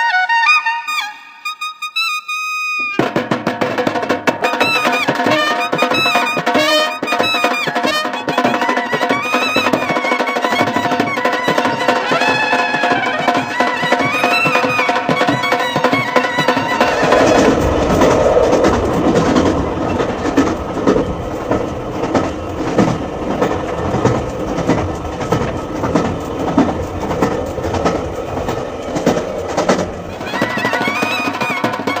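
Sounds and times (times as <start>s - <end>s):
train wheels clicking on rails: 3.0s - 32.0s.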